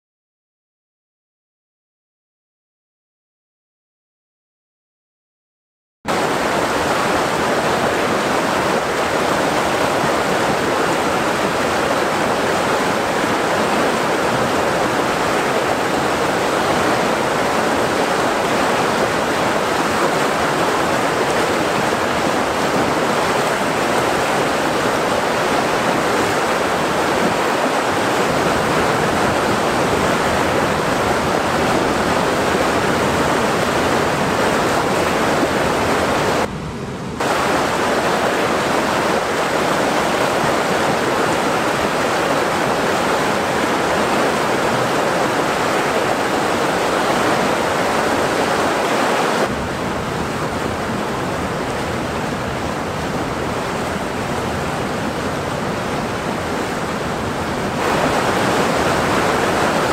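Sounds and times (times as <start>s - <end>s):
waterfall rushing over boulders: 6.1s - 59.9s.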